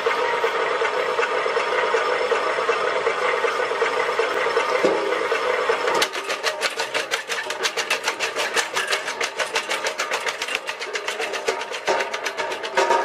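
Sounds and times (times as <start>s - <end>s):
machine engine running: 0.0s - 13.0s.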